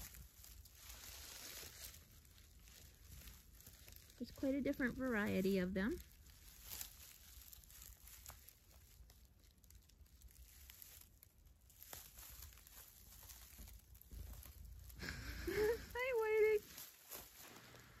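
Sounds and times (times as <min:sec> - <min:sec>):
dry hay rustling: 0:00.0 - 0:18.0.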